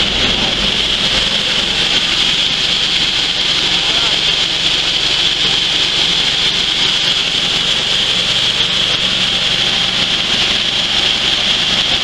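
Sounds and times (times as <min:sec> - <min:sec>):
coffee huller machine running: 0:00.0 - 0:12.0.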